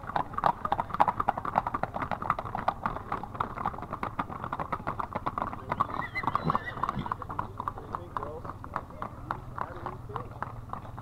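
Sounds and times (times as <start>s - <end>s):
horse hooves on asphalt: 0.0s - 11.0s.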